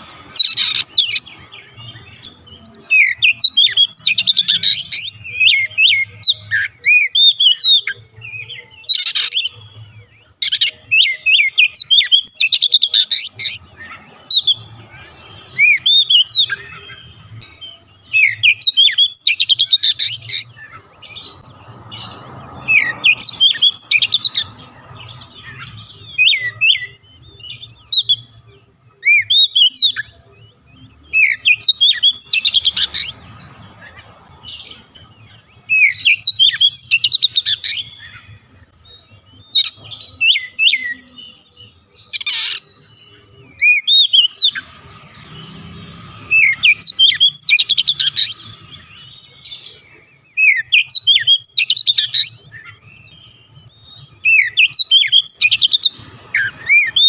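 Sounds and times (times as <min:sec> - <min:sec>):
bird singing whistles and chatter: 0:00.0 - 0:57.0.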